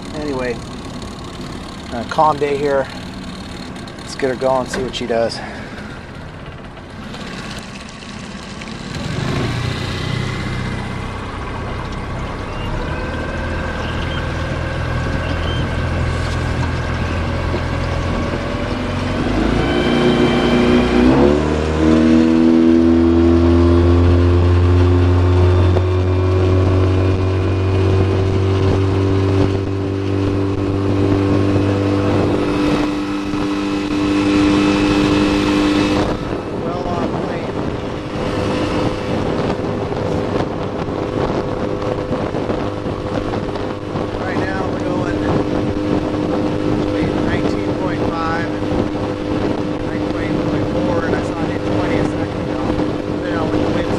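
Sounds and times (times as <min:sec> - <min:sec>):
outboard motor throttling up: 0:00.0 - 0:53.9.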